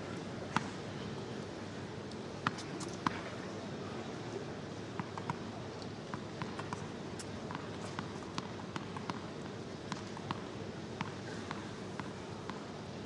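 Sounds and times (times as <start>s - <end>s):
stadium crowd hum: 0.0s - 13.0s.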